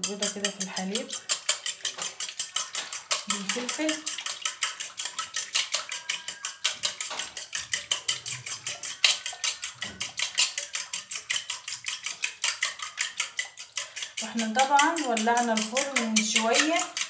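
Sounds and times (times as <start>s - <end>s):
utensil clinking in metal bowl: 0.0s - 17.0s.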